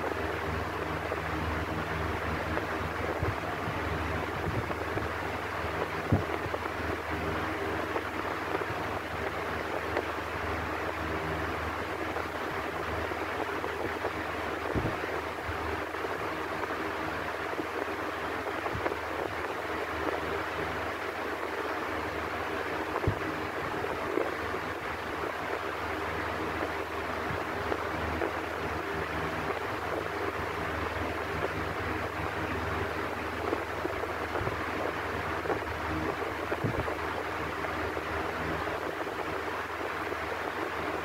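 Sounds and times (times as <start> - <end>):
electric fan running: 0.0 - 41.0.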